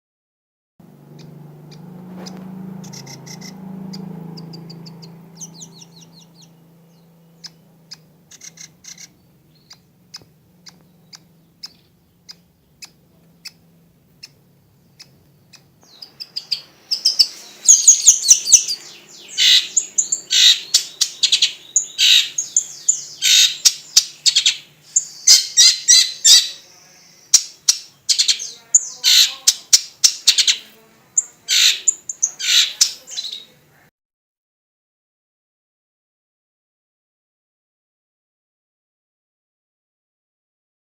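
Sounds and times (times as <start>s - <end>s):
shrike singing: 0.8s - 33.9s.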